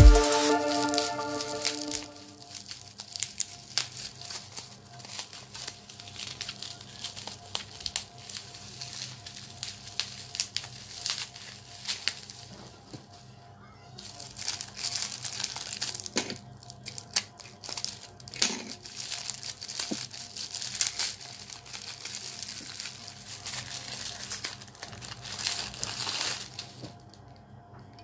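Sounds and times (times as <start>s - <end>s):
plastic wrap crinkling: 0.0s - 12.7s, 14.0s - 28.0s.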